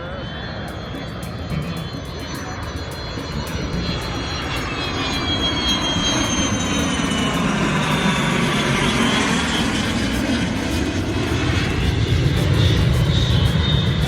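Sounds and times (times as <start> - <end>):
airplane engine flying past: 0.0 - 14.0.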